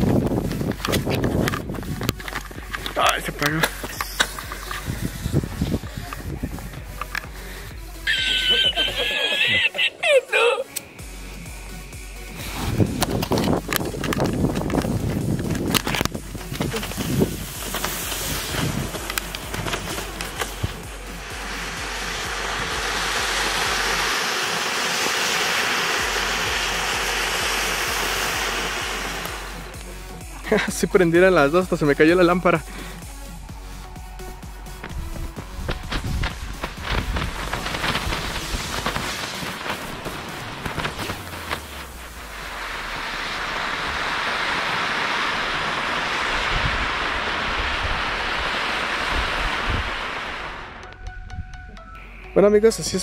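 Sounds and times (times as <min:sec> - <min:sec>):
fireworks hissing: 0:00.0 - 0:51.0.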